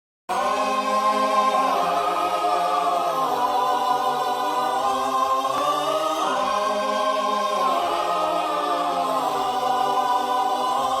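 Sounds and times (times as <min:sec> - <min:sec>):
choir singing slow chant: 0:00.3 - 0:11.0.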